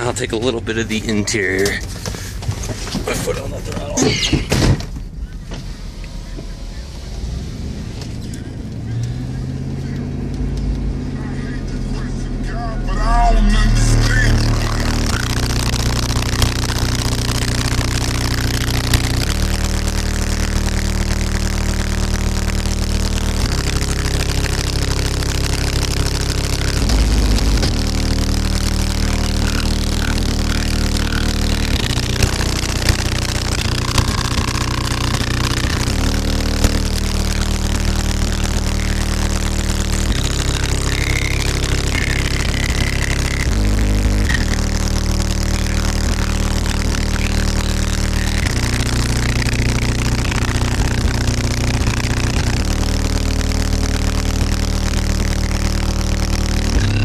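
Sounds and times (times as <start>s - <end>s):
loud bass-heavy music: 0.0s - 57.0s.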